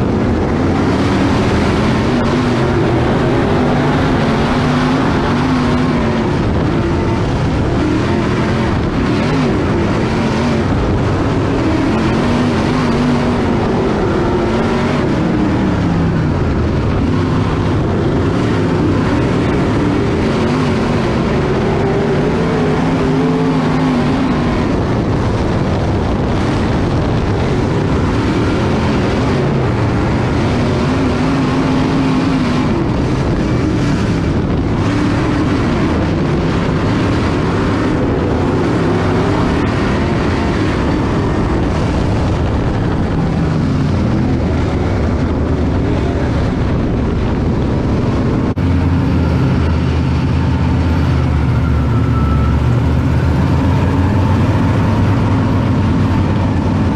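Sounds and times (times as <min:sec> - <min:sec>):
race car engine: 0:00.0 - 0:56.9.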